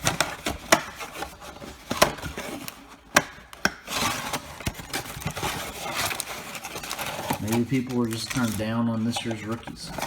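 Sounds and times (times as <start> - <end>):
cardboard box rustling: 0.0 - 10.0.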